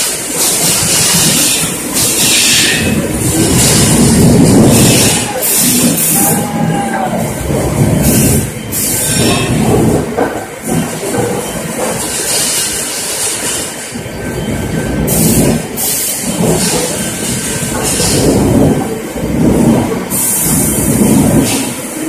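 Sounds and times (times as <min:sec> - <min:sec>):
machinery clatter and rumble: 0:00.0 - 0:22.0.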